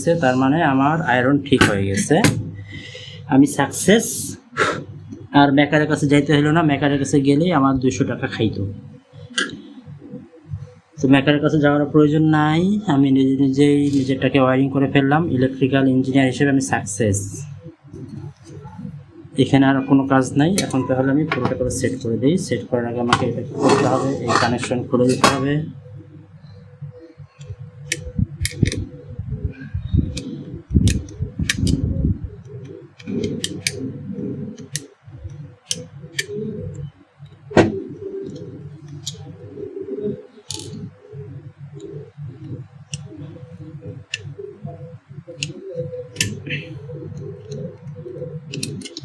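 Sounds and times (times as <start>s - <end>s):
steady low hum: 0.0s - 5.3s, 14.9s - 49.0s.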